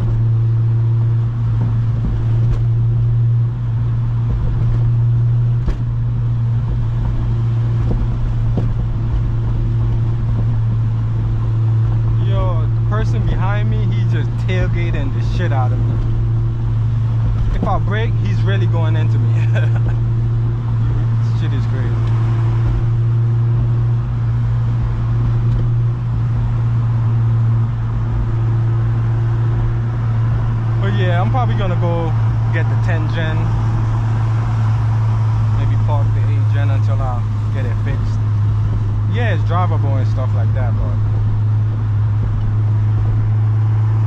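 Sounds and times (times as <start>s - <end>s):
car engine droning: 0.0s - 44.0s
road noise: 0.0s - 44.0s.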